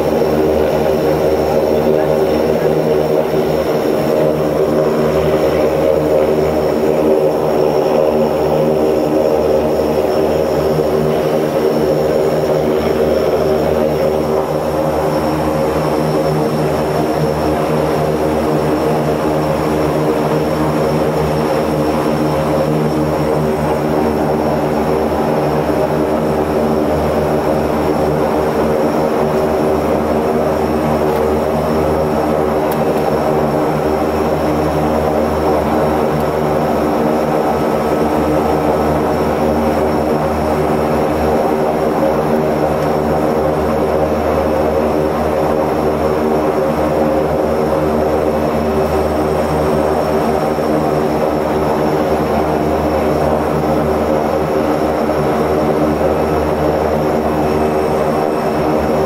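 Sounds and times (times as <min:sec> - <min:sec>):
high turbine whine: 0:00.0 - 0:59.0
turboprop engines droning: 0:00.0 - 0:59.0.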